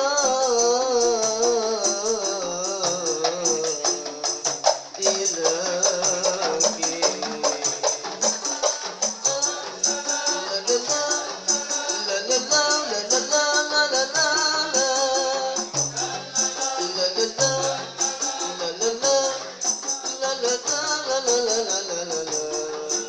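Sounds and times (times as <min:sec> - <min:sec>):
frame drums beating: 0:00.0 - 0:23.0
person singing: 0:00.0 - 0:23.0
tambourine jingles: 0:00.0 - 0:23.0.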